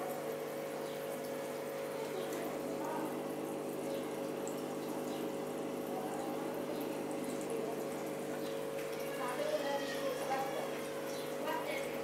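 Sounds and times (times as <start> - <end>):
aquarium pump humming: 0.0 - 12.0
water trickling and bubbling: 0.0 - 12.0.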